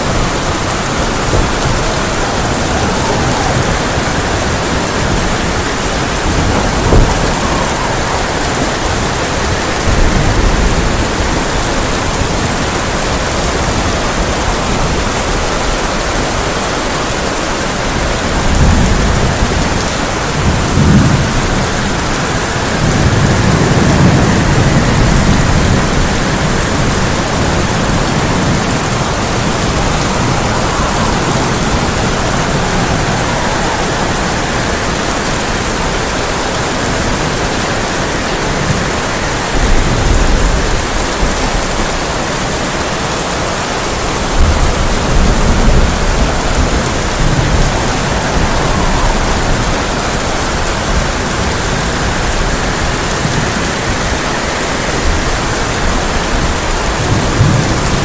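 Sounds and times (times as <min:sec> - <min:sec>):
heavy rain on a tin roof: 0:00.0 - 0:58.0
thunder rumbling: 0:00.0 - 0:58.0.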